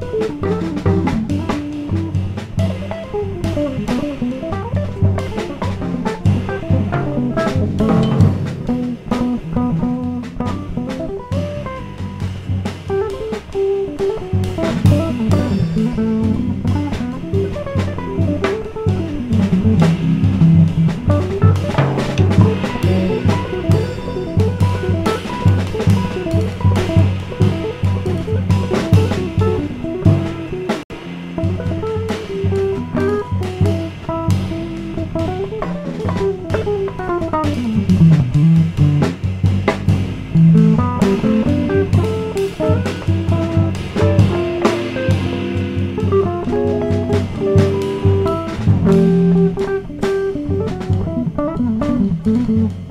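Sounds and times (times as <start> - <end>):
cymbal and drum strikes: 0.0 - 52.9
electric bass line: 0.0 - 52.9
electric guitar: 0.0 - 52.9
jazz trio playing: 0.0 - 52.9.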